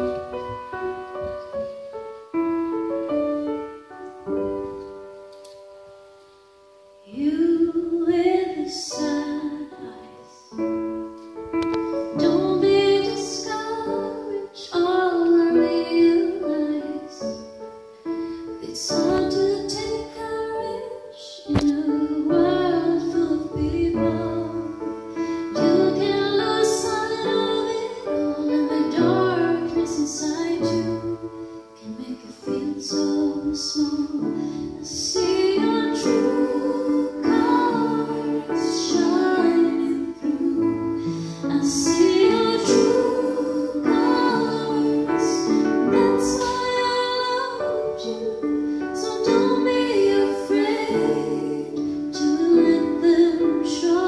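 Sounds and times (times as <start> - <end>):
piano accompaniment: 0.0 - 54.0
woman singing a ballad: 7.0 - 10.5, 12.2 - 17.5, 18.6 - 54.0.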